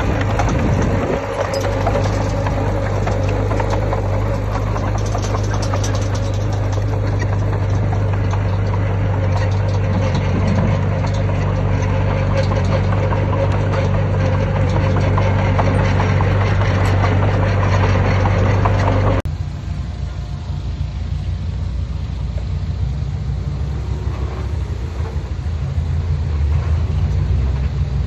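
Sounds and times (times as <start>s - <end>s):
heavy diesel engines running: 0.0s - 28.0s
rough low engine sound: 0.0s - 28.0s.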